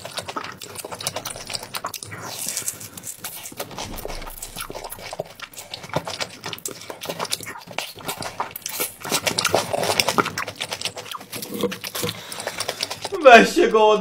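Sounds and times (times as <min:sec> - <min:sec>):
wet mouth smacking and chewing: 0:00.0 - 0:13.2.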